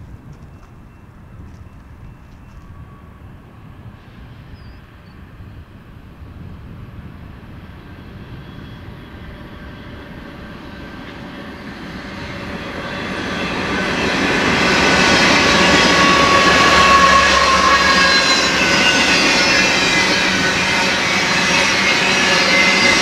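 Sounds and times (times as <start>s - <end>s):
diesel locomotive engines: 0.0s - 23.0s.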